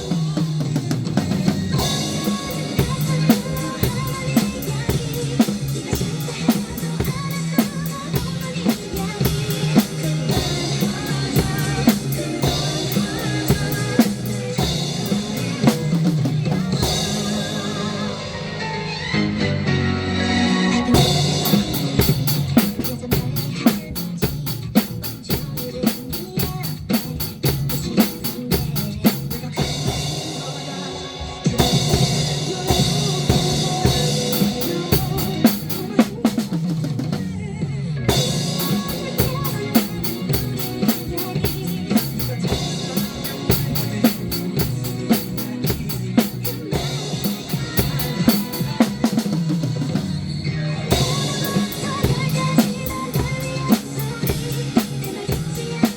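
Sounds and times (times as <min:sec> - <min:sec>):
drum kit playing a groove: 0:00.0 - 0:18.9, 0:20.8 - 0:55.9
backing music: 0:00.0 - 0:55.9.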